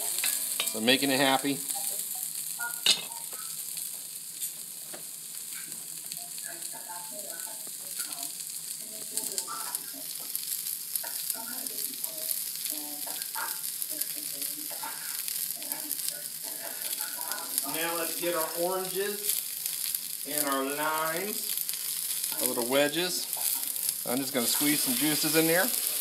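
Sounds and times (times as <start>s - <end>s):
onions sizzling in a pot: 0.0s - 26.0s.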